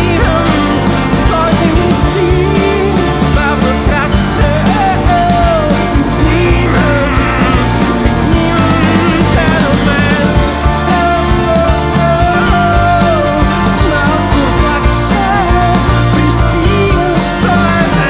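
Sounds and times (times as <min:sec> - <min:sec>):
man singing: 0:00.0 - 0:18.0
rock band playing: 0:00.0 - 0:18.0.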